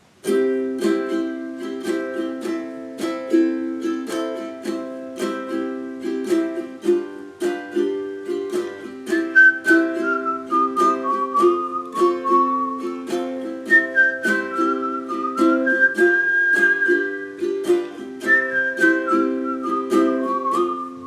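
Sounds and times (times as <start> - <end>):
ukulele strumming chords: 0.0 - 21.0
person whistling a melody: 0.8 - 21.0.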